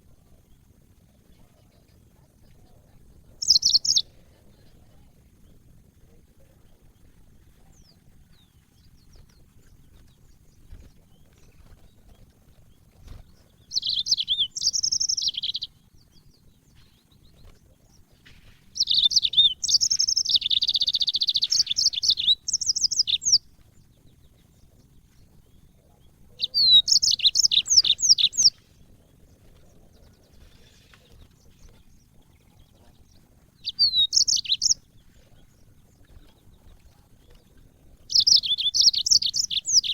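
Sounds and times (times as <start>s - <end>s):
canary twittering song: 0.1s - 39.9s.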